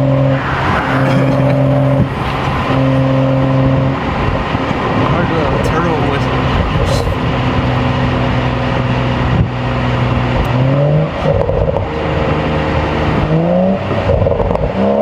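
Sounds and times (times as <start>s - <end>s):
tyre and road noise: 0.0s - 14.7s
car engine revving: 0.0s - 15.0s.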